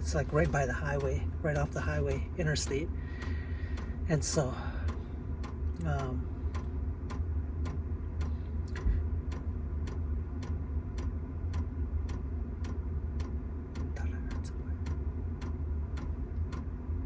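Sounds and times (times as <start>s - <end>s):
fuel pump ticking: 0.0s - 17.0s
low steady hum: 0.0s - 17.0s.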